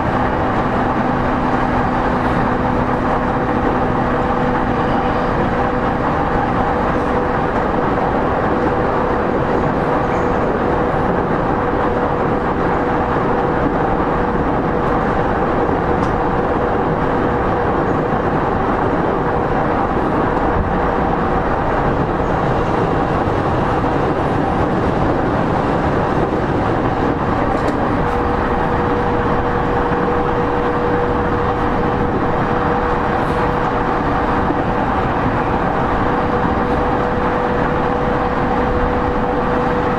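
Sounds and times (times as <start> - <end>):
electric traction hum: 0.0 - 39.9
train wheels rumbling on track: 0.0 - 39.9.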